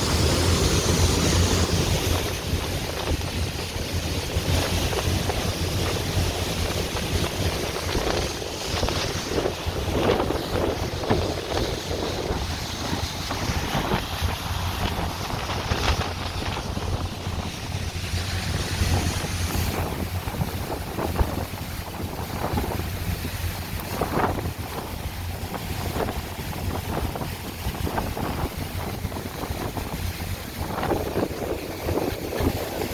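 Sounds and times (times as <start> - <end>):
boat engine drone: 0.0 - 32.9
water rushing: 0.0 - 32.9
wind on microphone: 0.0 - 32.9.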